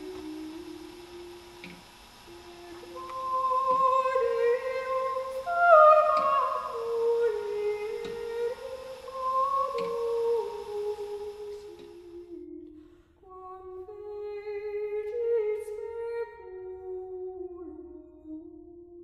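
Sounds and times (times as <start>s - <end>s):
slow gliding melody: 0.0s - 19.0s.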